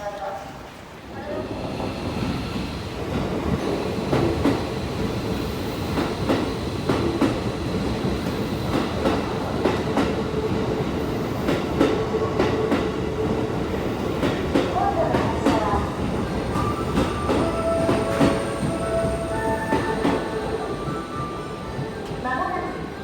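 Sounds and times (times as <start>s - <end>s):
train rumble: 1.2s - 23.0s.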